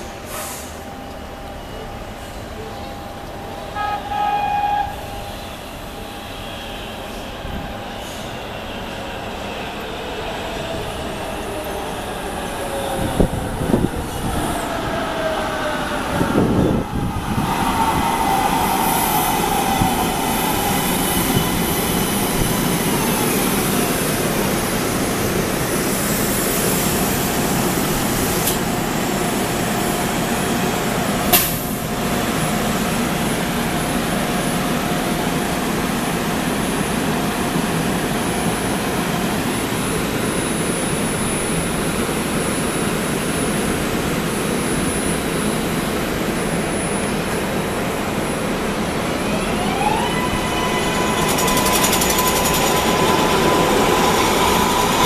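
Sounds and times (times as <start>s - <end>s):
electric whine of train: 0.0s - 55.0s
train wheels on rails: 5.1s - 55.0s.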